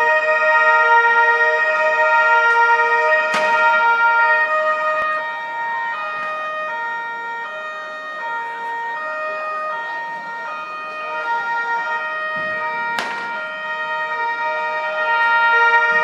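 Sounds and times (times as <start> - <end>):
two-tone police siren: 0.0 - 16.0.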